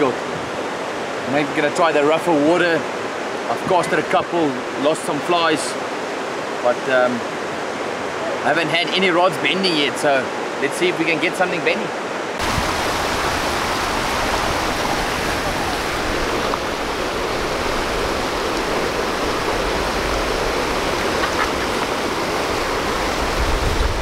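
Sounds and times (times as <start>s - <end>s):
river water rushing over a weir: 0.0s - 24.0s.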